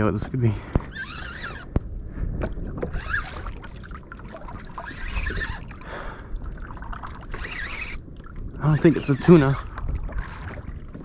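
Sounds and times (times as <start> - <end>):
water sloshing around boat: 0.0 - 11.0
wind on microphone: 0.0 - 11.0.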